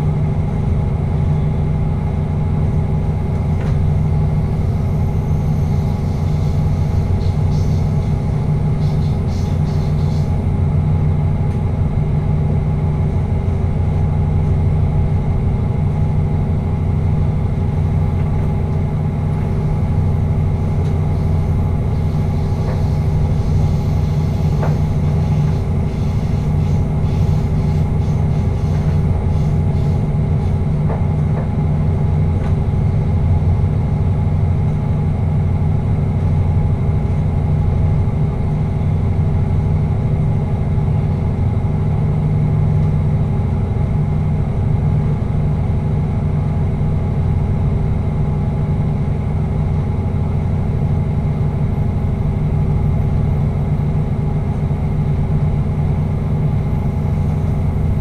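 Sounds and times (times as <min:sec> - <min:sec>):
train droning rumble: 0:00.0 - 0:58.0.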